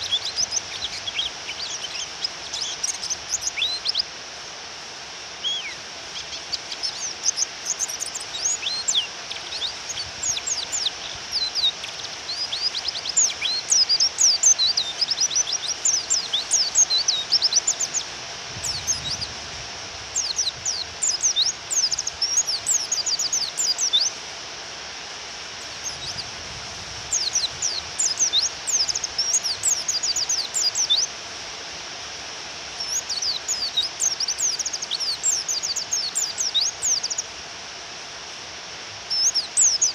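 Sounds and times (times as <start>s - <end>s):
bird twittering chirps: 0.0s - 4.1s, 5.4s - 19.4s, 20.1s - 24.2s, 25.6s - 26.3s, 27.0s - 31.1s, 32.8s - 37.3s, 39.1s - 39.9s
rain hiss: 0.0s - 39.9s.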